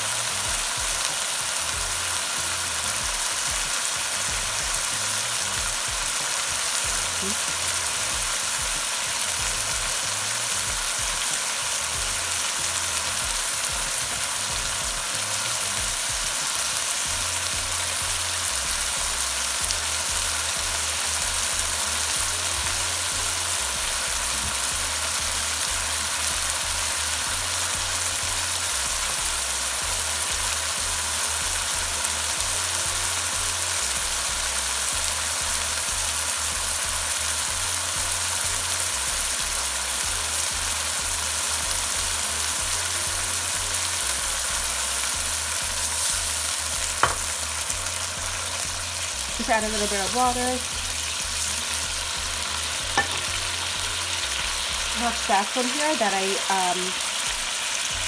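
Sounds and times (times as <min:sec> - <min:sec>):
onions sizzling in a pan: 0:00.0 - 0:58.0.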